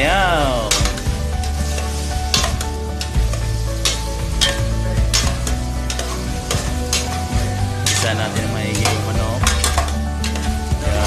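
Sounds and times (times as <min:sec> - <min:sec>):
chicken sizzling in a pot: 0:00.0 - 0:11.0
utensil scraping a pot: 0:00.7 - 0:11.0.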